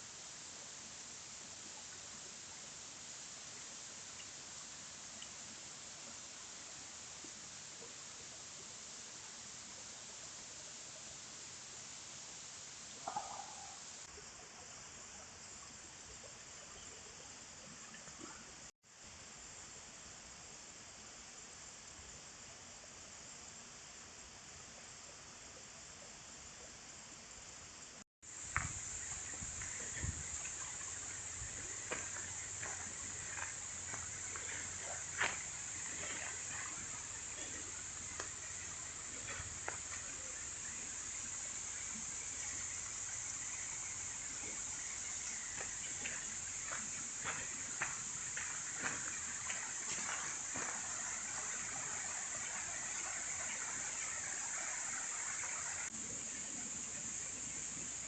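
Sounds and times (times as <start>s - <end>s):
chorus of crickets: 0.0s - 58.0s
even hiss: 0.0s - 58.0s.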